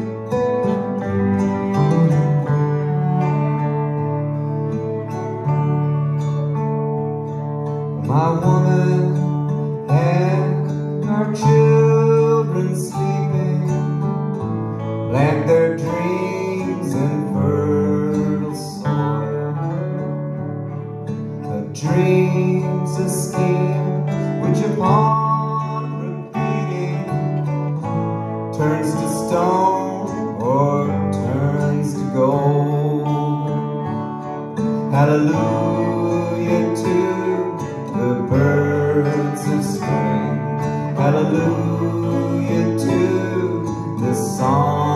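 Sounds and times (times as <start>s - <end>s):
acoustic guitar: 0.0s - 44.9s
bowed cello: 0.0s - 44.9s
electric guitar: 0.0s - 44.9s.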